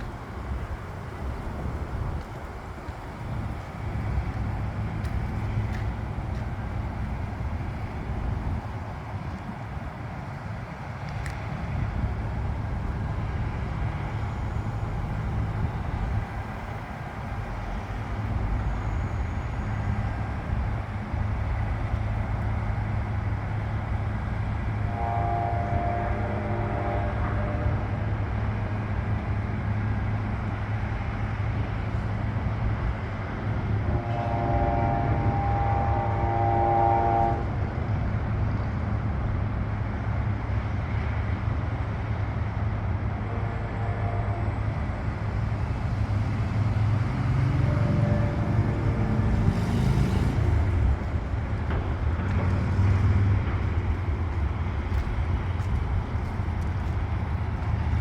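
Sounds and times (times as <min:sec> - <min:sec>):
rumble of passing vehicles: 0:00.0 - 0:58.0.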